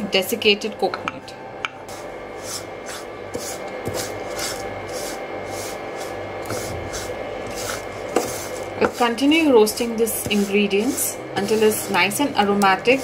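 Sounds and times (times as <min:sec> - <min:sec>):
wooden spatula scraping dry pan: 0:01.9 - 0:13.0.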